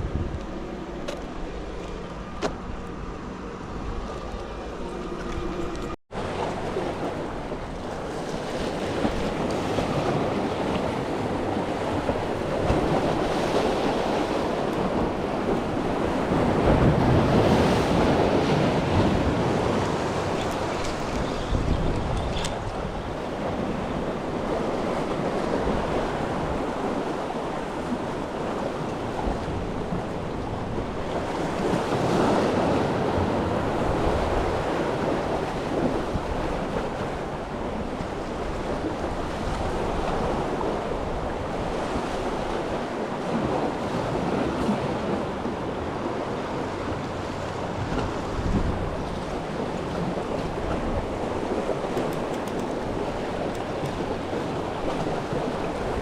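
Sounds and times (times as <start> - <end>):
sea waves washing on shore: 0.0 - 56.0
wind rumbling on microphone: 0.0 - 56.0.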